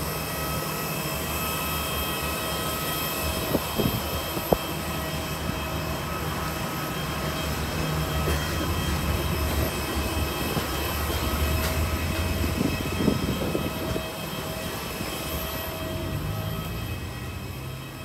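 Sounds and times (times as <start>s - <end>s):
high whining engine tones: 0.0s - 18.0s
low engine drone: 0.0s - 18.0s.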